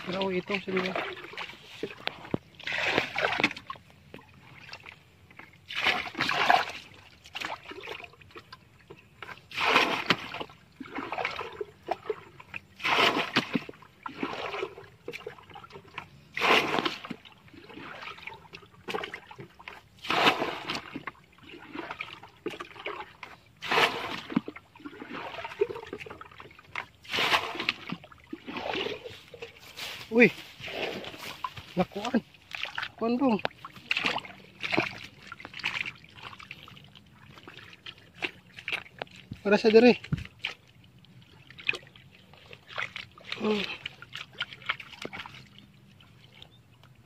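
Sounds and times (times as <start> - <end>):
water splashing from bucket: 0.0 - 46.6
water dribbling and sloshing: 0.0 - 47.0.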